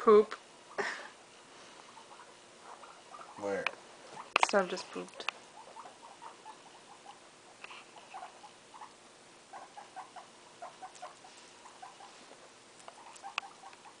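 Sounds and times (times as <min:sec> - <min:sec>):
guinea pigs squeaking: 0:00.1 - 0:14.0.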